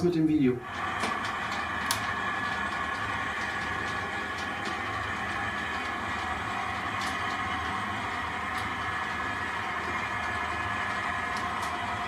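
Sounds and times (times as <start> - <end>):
model train humming: 0.6 - 12.0.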